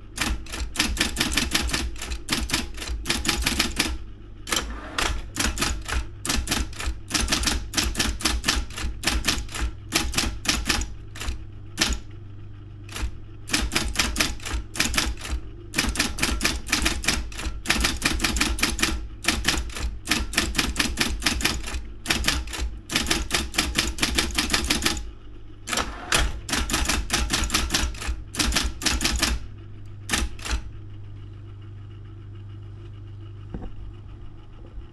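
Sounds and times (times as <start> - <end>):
electric typewriter typing: 0.0 - 12.2, 12.8 - 30.8
steady low hum: 0.0 - 34.9.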